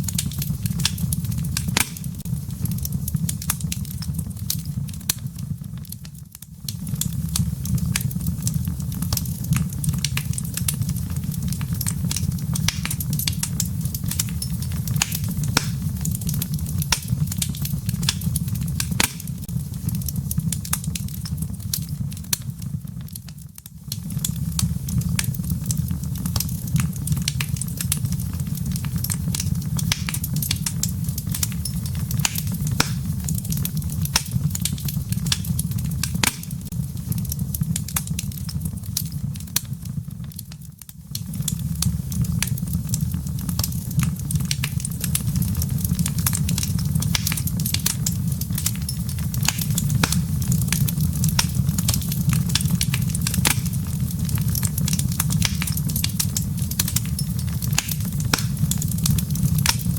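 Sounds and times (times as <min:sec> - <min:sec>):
embers popping and snapping: 0:00.0 - 0:59.9
fire crackling: 0:00.0 - 0:59.9
low rumble of flame: 0:00.0 - 0:59.9.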